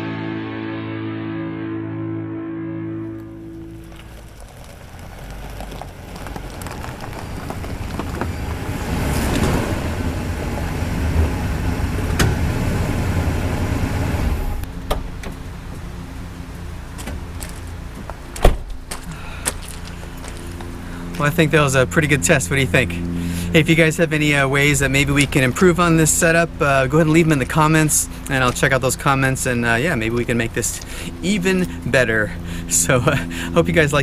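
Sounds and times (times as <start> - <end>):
motorhome engine rumble: 3.0 - 34.0.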